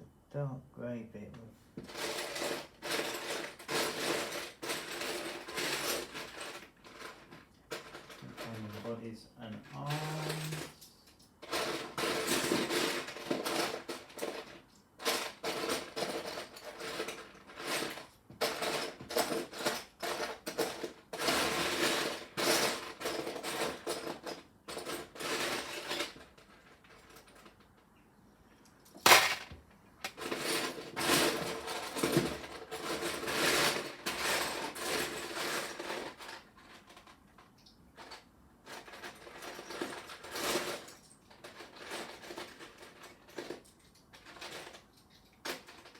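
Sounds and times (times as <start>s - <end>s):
plastic pieces clattering: 1.9s - 8.8s, 9.7s - 27.8s, 29.0s - 45.9s.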